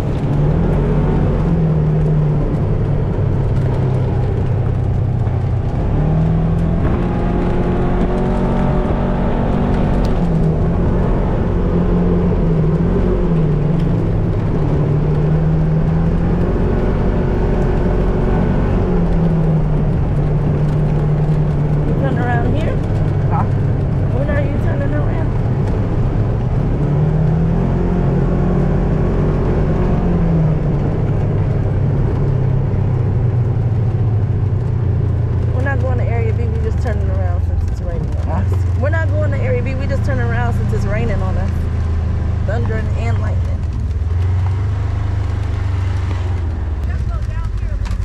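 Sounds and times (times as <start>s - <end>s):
vehicle engine changing pitch: 0.0s - 48.0s.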